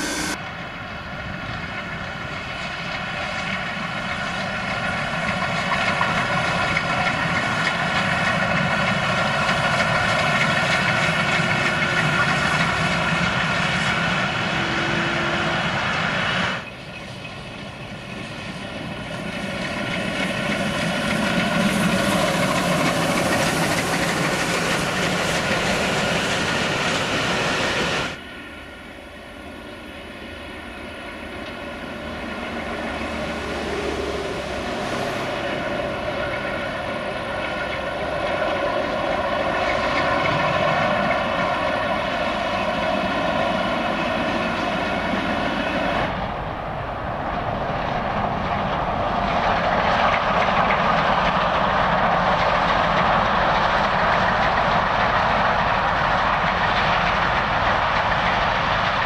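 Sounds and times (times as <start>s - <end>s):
steam train running: 0.0s - 59.0s.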